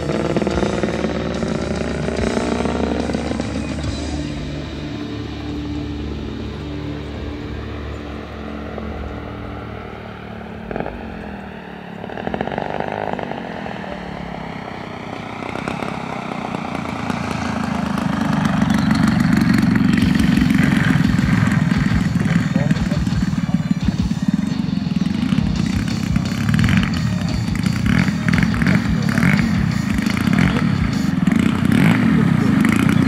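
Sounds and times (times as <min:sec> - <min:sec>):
model plane engine running: 0:00.0 - 0:33.0.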